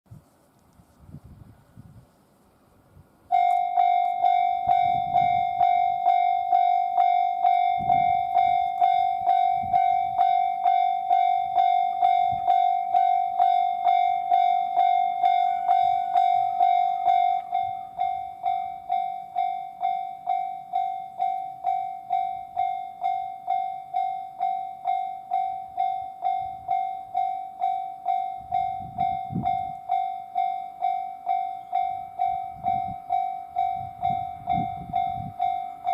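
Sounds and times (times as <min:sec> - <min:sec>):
level crossing electronic bell dinging: 0:03.3 - 0:35.9.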